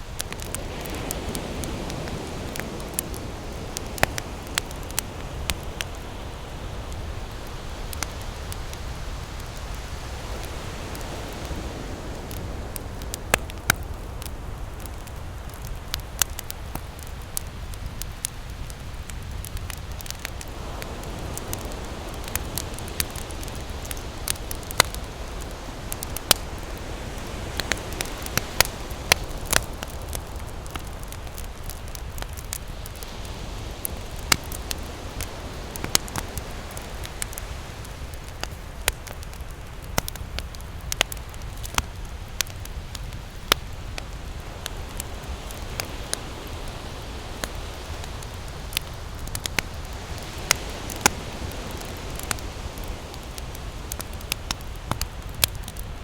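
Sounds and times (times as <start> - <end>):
campfire crackling and popping: 0.0 - 56.0
ocean surf rumble: 0.0 - 56.0.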